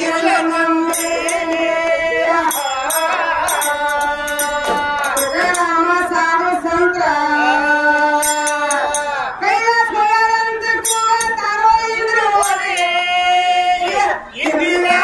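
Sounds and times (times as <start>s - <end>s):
hand cymbals clinking: 0.0s - 6.2s, 7.9s - 13.8s.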